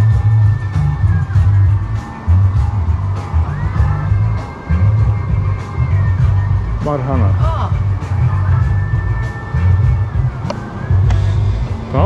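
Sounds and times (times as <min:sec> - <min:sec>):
music with pulsing bass line: 0:00.0 - 0:12.0.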